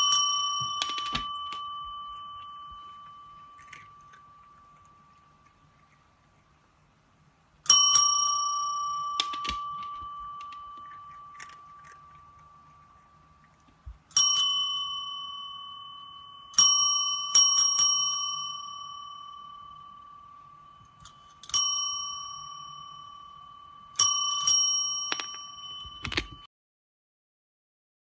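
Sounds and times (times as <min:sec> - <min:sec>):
desk call bell dinging: 0:00.0 - 0:05.4, 0:07.7 - 0:13.0, 0:14.2 - 0:26.5.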